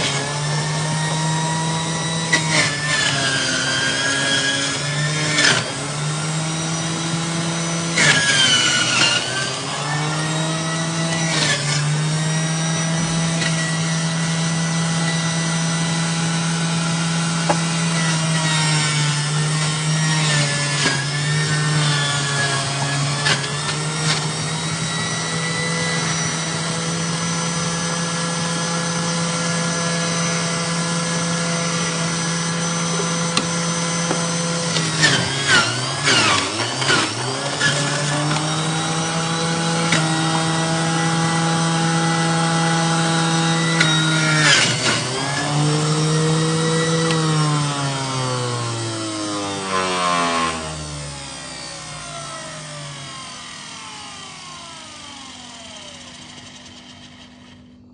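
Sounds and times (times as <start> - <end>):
blender clatter: 0.0 - 57.9
electric blender motor running: 0.0 - 57.9.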